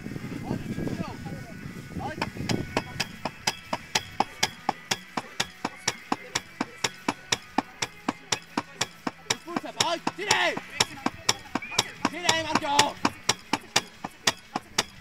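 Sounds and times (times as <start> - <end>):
hammer striking a block: 2.2 - 15.0.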